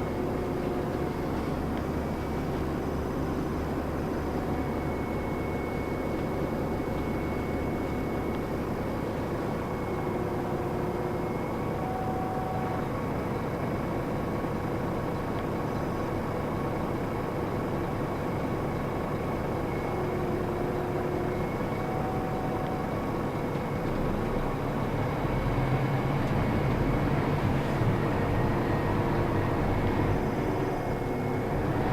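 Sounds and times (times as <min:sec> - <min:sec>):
bus engine and road noise: 0:00.0 - 0:31.9.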